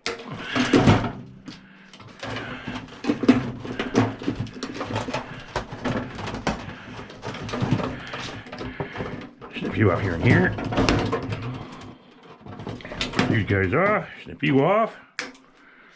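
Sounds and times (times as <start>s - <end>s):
metal parts clicking and clattering: 0.0s - 14.1s.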